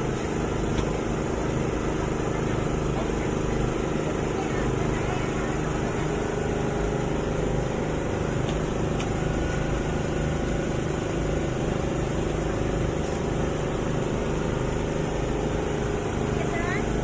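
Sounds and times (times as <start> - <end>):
motor droning: 0.0 - 17.0.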